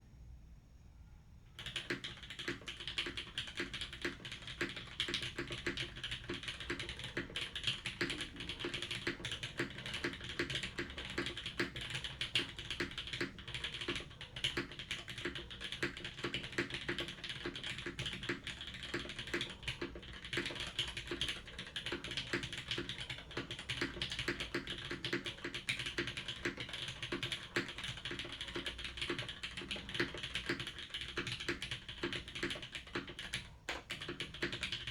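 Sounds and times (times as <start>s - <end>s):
mechanical keyboard typing: 1.6s - 34.9s.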